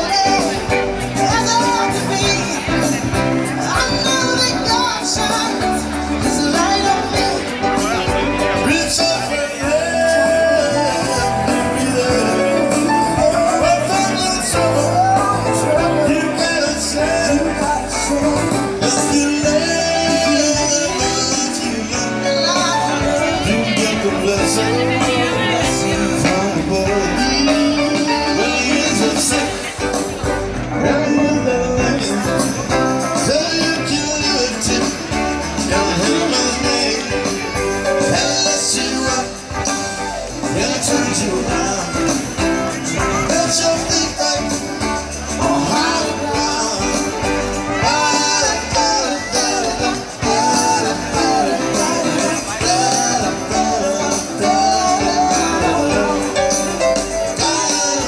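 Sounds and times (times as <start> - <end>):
live band with singer over pa: 0.0 - 58.0.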